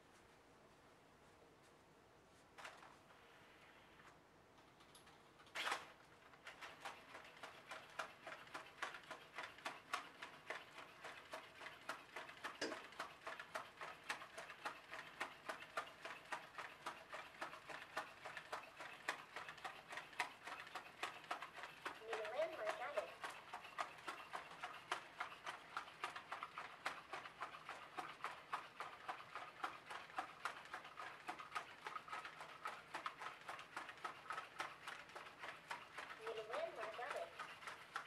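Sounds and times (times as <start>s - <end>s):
robot footsteps and motor clicks: 4.6s - 38.0s.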